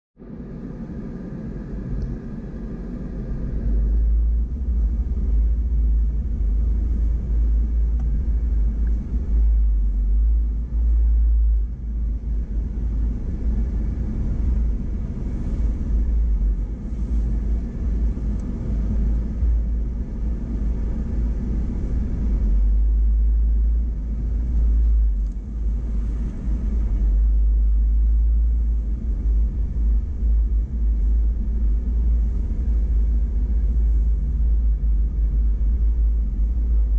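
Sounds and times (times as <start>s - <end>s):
vehicle engine and tyres rumbling: 0.2s - 36.9s.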